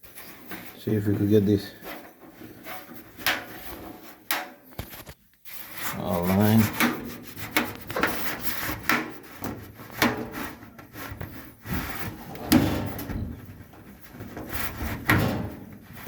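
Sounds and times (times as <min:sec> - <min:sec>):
dryer drum rubbing and scraping: 0:00.0 - 0:04.4, 0:05.4 - 0:16.0.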